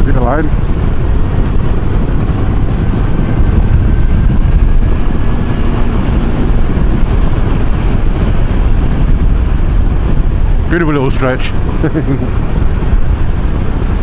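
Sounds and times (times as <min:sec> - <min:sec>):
motorcycle engine: 0:00.0 - 0:14.0
wind rush while riding: 0:00.0 - 0:14.0.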